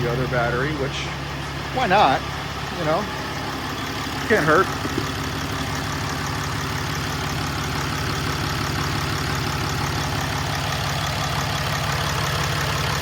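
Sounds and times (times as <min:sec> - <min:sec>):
pickup engine idling: 0:00.0 - 0:13.0.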